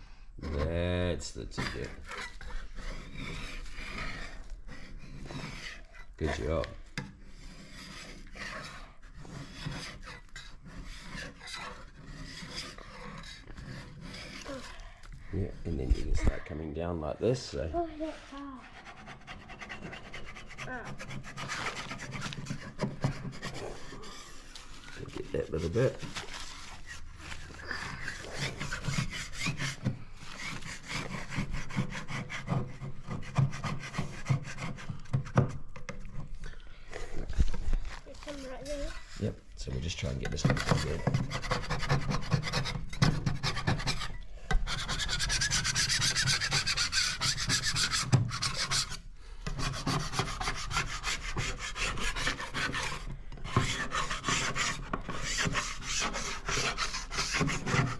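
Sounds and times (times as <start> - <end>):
hand scraper scraping wood: 0.4 - 57.9.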